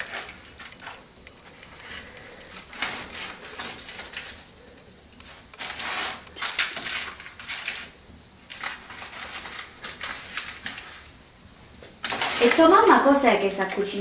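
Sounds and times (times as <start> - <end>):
baking paper crinkling: 0.0 - 14.0.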